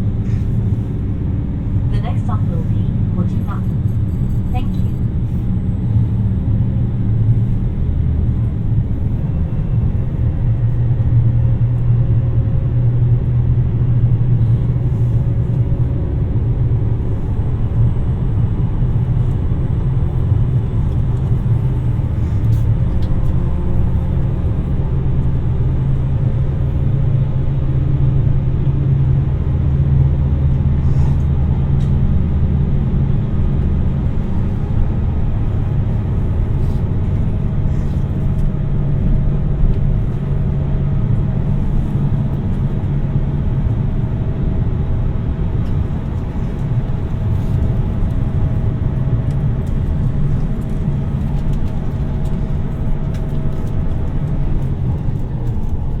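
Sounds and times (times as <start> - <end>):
train engine drone: 0.0 - 56.0
wheel-on-rail rumble: 0.0 - 56.0.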